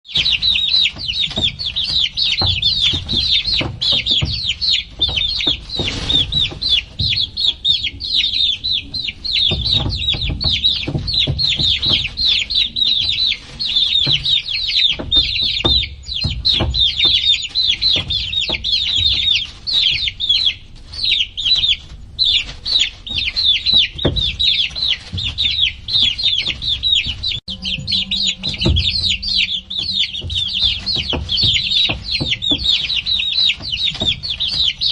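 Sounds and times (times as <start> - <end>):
baby chicks peeping: 0.0 - 34.9
low thumps: 0.9 - 20.2, 22.0 - 34.9.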